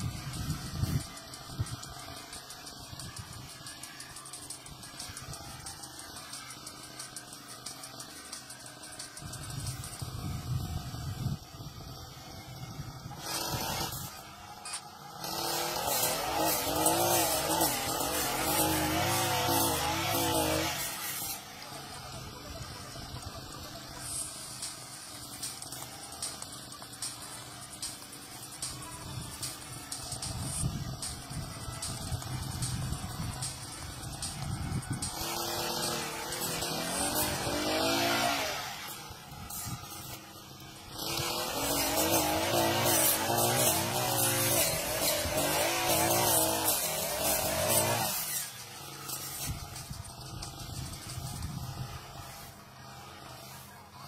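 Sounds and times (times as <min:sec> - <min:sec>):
brush cutter engine running: 0:00.0 - 0:54.0.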